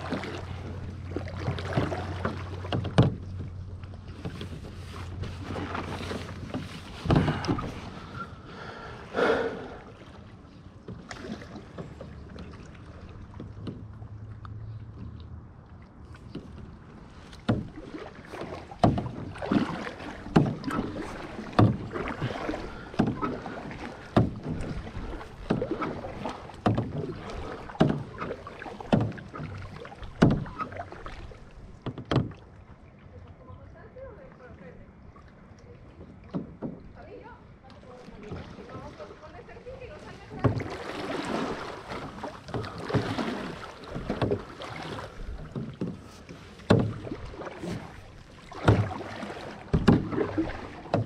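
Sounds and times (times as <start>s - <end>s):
kayak paddles splashing: 0.0s - 51.0s
water and wind noise: 0.0s - 51.0s.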